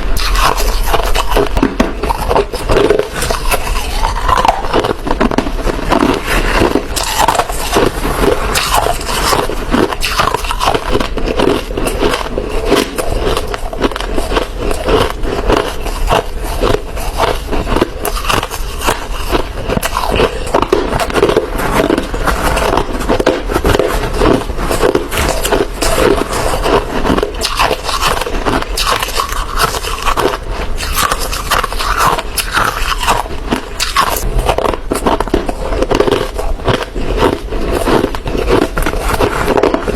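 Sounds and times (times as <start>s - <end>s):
ice crunching when chewed: 0.0s - 39.9s.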